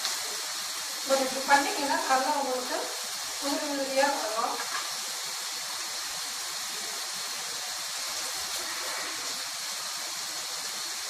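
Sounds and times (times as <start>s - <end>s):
food hissing and bubbling on stove: 0.0s - 11.0s.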